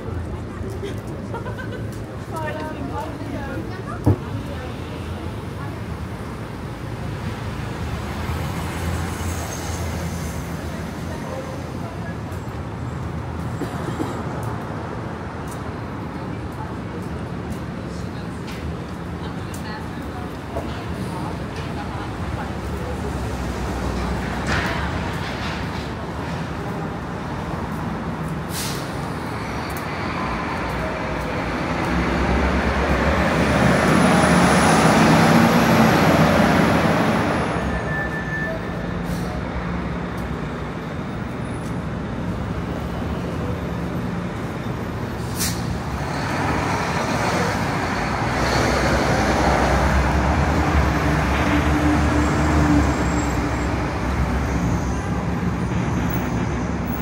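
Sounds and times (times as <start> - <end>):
heavy vehicles passing: 0.0 - 57.0.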